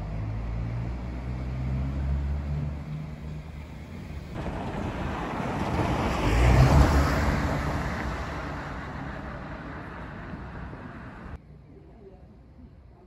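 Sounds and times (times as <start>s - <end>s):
car driving past: 0.0s - 11.4s.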